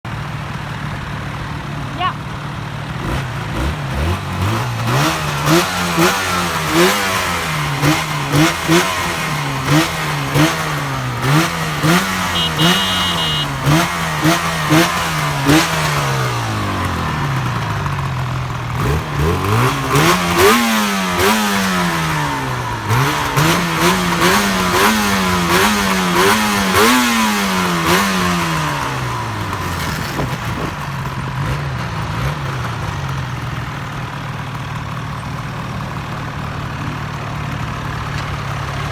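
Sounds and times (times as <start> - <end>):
two-stroke engine revving: 1.0 - 38.9.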